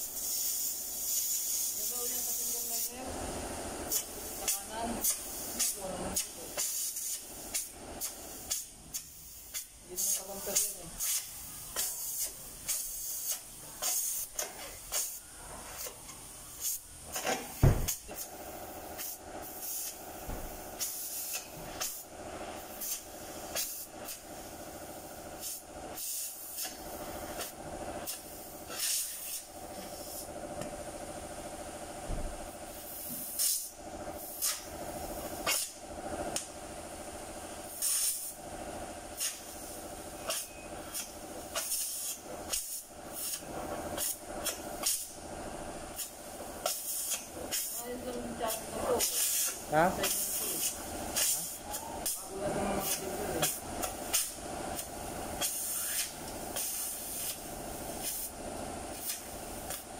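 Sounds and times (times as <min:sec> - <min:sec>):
cutting torch hissing: 0:00.0 - 0:30.3, 0:32.7 - 0:35.8, 0:37.7 - 0:38.4, 0:39.2 - 0:45.2, 0:45.9 - 0:59.9.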